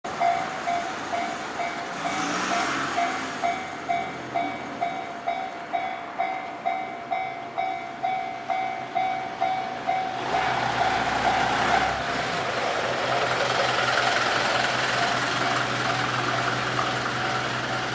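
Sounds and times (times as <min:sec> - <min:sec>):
crossing warning bell ringing: 0:00.1 - 0:12.6, 0:13.4 - 0:17.9
electric train rumbling past: 0:00.1 - 0:17.9.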